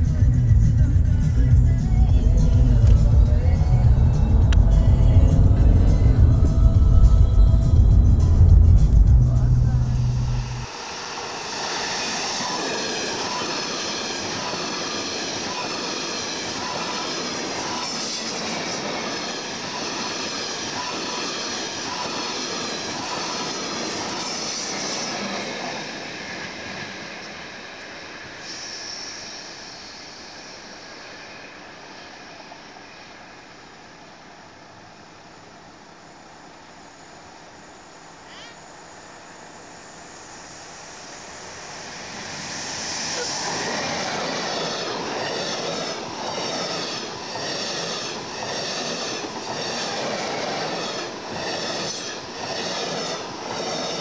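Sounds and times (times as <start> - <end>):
passenger train passing: 0.0 - 54.0.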